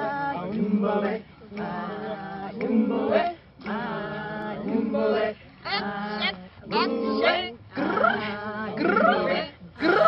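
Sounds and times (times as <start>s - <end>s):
voices singing without instruments: 0.0s - 10.0s.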